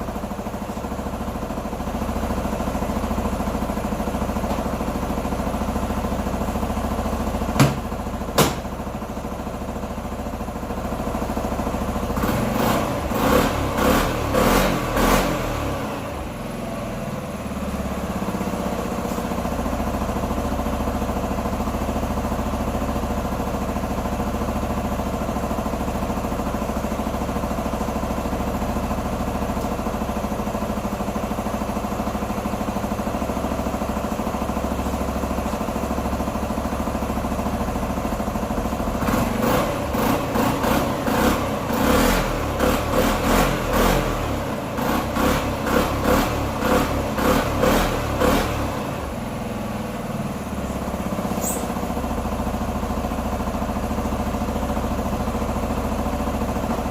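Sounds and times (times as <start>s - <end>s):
motorcycle engine idling: 0.0s - 13.8s, 16.0s - 41.8s, 42.4s - 56.9s.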